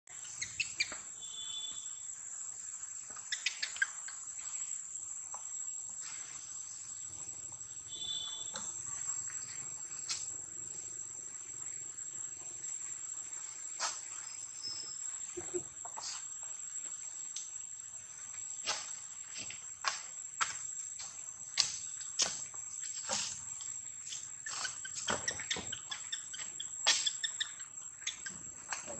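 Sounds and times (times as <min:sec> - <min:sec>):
insects droning: 0:00.1 - 0:28.9.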